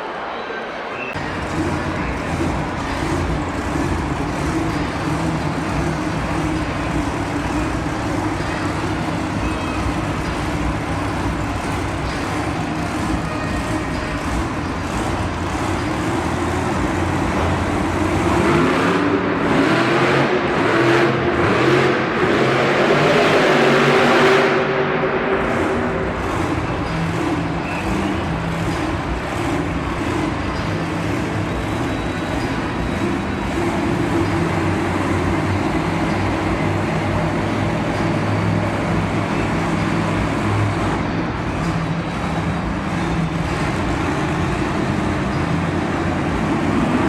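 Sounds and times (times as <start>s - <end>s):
monster truck engine revving: 1.2s - 47.0s.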